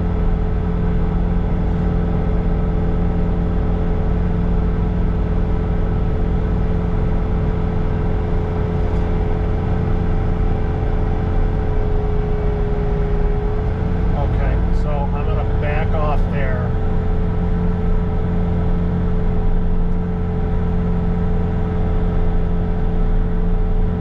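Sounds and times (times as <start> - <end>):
diesel engine running: 0.0 - 24.0
snow blower whine: 0.3 - 22.8.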